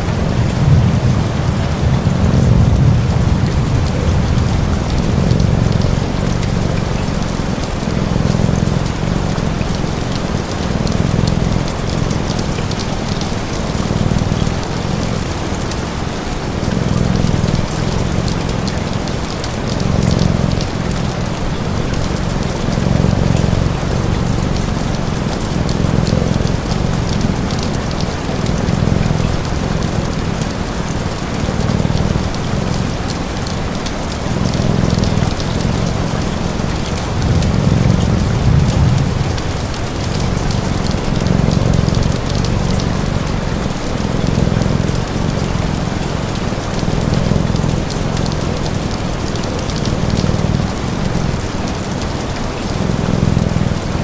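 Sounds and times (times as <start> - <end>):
fire crackling: 0.0 - 46.2
steady rain: 0.0 - 54.0
cat purring: 0.1 - 54.0.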